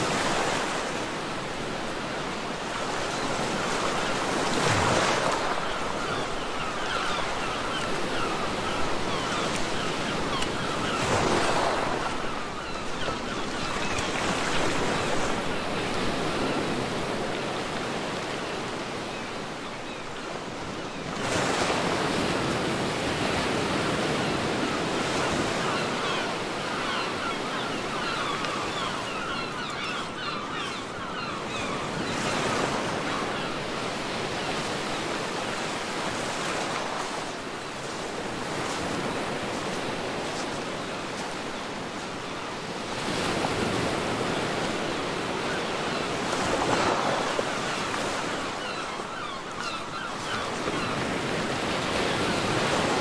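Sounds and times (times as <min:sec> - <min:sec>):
sea waves breaking on a beach: 0:00.0 - 0:53.0.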